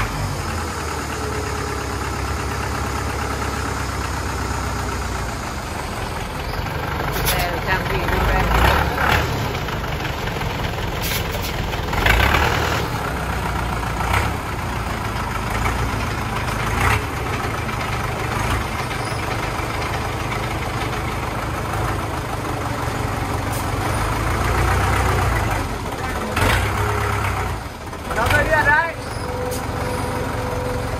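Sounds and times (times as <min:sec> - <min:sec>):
diesel engine knocking clatter: 0:00.0 - 0:30.9.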